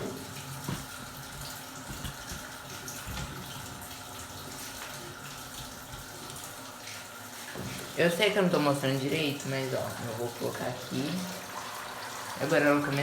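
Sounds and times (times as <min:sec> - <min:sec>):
water filling washing machine tub: 0:00.0 - 0:13.0.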